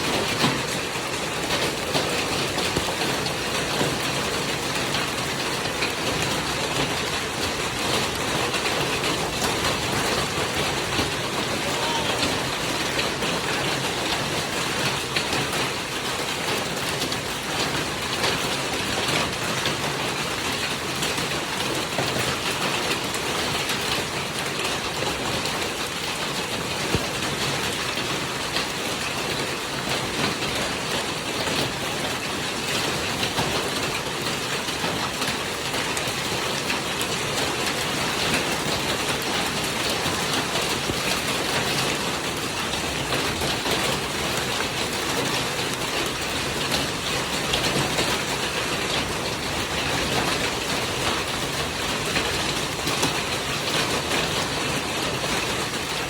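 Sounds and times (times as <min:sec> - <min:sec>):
hail and rain pelting down: 0:00.0 - 0:56.0.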